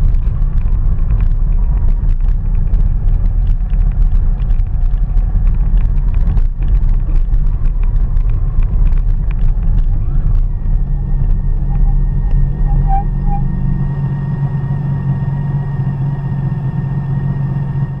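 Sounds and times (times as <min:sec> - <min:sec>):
tyres crackling on gravel: 0:00.0 - 0:14.6
vehicle engine running: 0:00.0 - 0:18.0.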